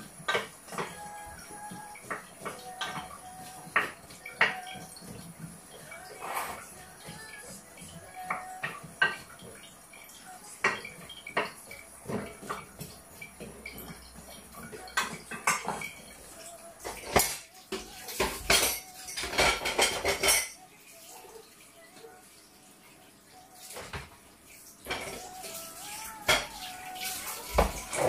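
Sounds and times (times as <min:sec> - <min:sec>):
dishes and cutlery clattering: 0:00.0 - 0:20.6, 0:24.8 - 0:28.0.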